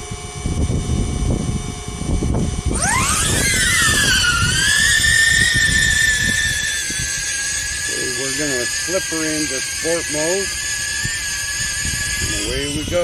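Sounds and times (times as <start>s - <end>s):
wind buffeting microphone: 0.0s - 13.0s
drone propellers whining: 2.0s - 13.0s.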